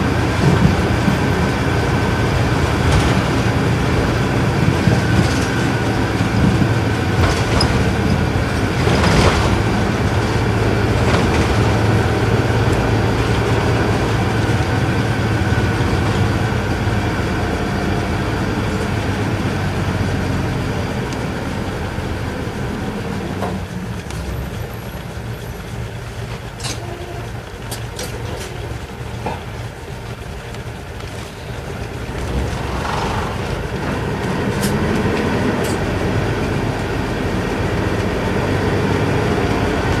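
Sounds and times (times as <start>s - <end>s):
bus diesel engine running: 0.0s - 40.0s
road noise: 0.0s - 40.0s.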